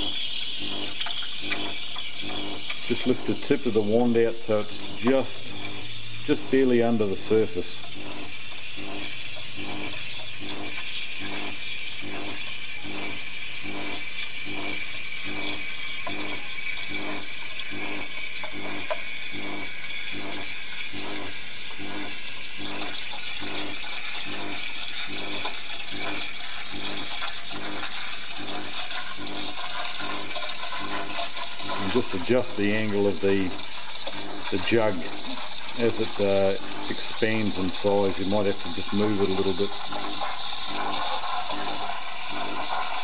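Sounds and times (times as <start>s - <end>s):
steam wand hissing in milk: 0.0s - 43.0s.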